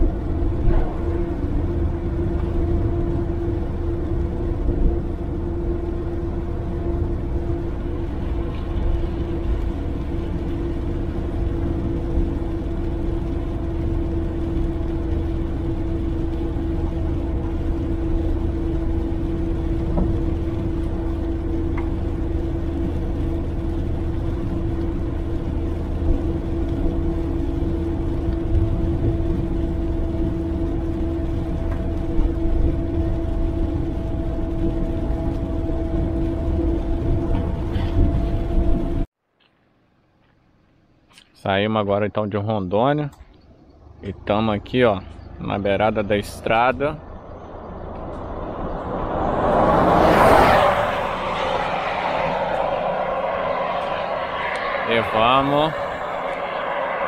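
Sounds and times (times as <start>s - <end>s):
car engine hum: 0.0s - 41.3s, 42.8s - 57.0s
tyre and road rumble: 0.0s - 41.5s, 42.8s - 57.0s.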